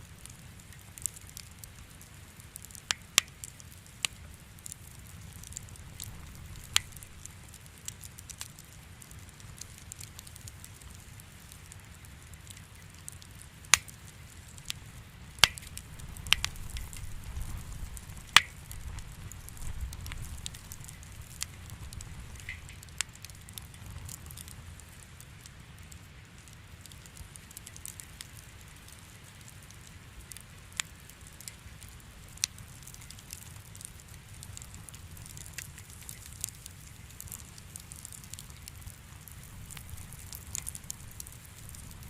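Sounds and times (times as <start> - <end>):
low rumble of flames: 0.0 - 42.0
wood fire crackling and popping: 0.0 - 42.0.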